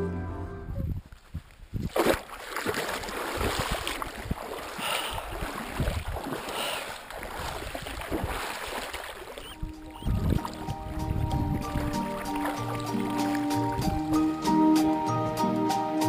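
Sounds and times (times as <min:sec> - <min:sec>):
water sloshing and splashing: 0:01.3 - 0:14.6.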